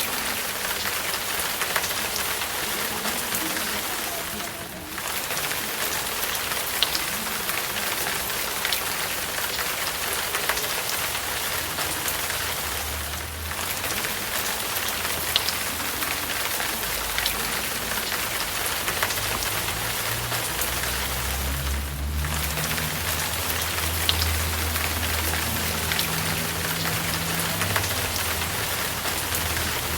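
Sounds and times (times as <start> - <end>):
rain hiss: 0.0 - 29.9
raindrops ticking: 0.0 - 29.9.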